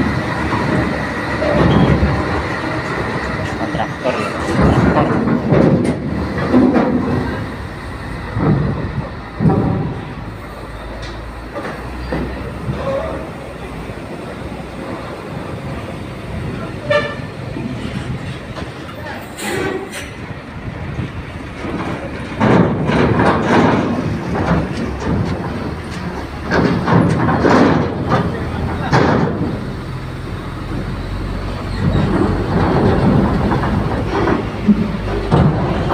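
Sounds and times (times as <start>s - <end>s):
heavy vehicles rumbling: 0.0s - 35.9s
machinery clanking: 0.0s - 35.9s.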